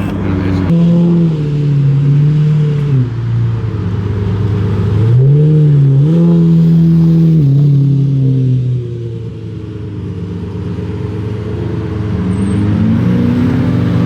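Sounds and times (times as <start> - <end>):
car engine at held revs: 0.0 - 14.0.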